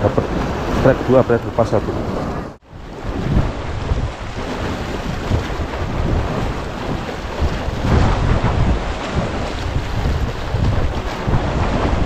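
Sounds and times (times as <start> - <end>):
waves breaking against rocks: 0.0 - 12.0
wind buffeting microphone: 0.0 - 12.0.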